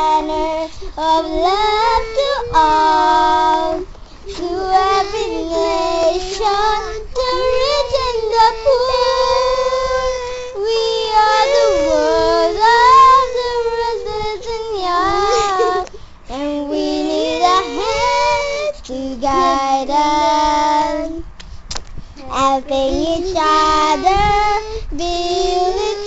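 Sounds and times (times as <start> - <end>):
girls singing together: 0.0 - 21.3, 22.2 - 26.0.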